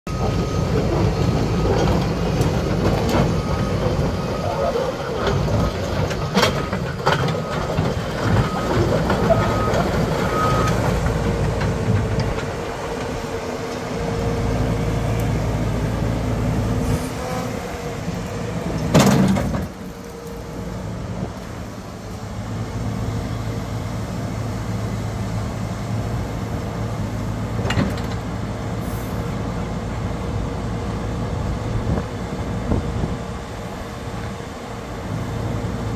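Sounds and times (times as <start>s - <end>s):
excavator diesel engine: 0.1s - 35.9s.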